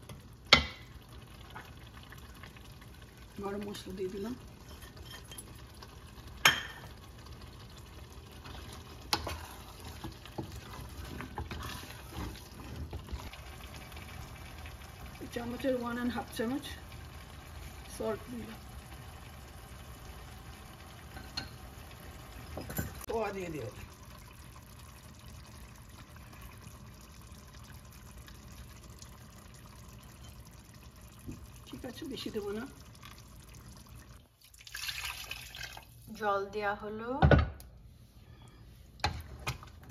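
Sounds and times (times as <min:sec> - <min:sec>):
curry simmering in a pot: 0:00.0 - 0:36.0.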